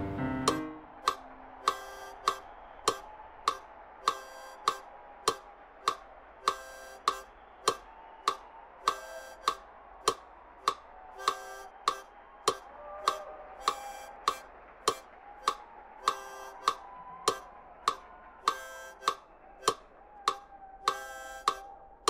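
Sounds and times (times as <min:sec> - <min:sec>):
buzzy ticks: 0:00.5 - 0:21.7
steady ticking: 0:00.5 - 0:21.7.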